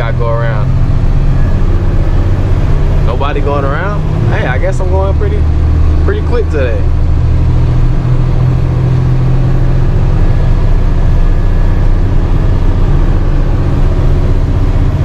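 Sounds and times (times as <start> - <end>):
diesel truck engine drone: 0.0 - 15.0
road noise: 0.0 - 15.0.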